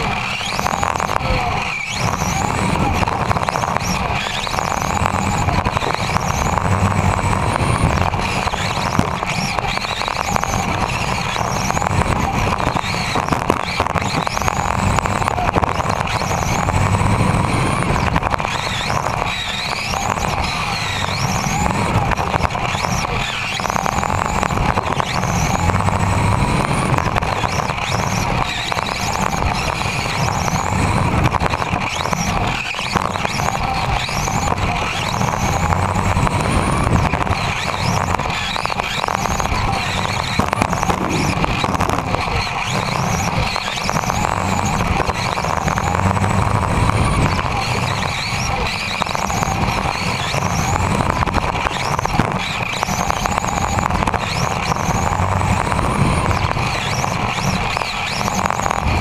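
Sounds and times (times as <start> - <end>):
rc car motor and gears whining: 0.0 - 59.0.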